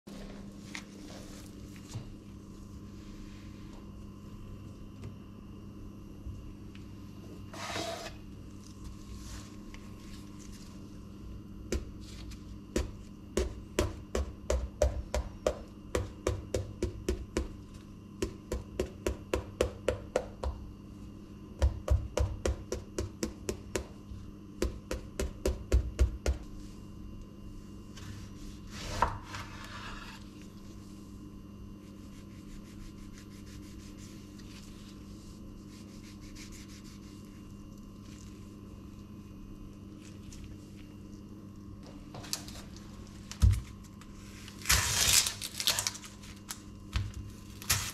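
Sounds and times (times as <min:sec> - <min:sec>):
steady low hum: 0:00.1 - 0:47.9.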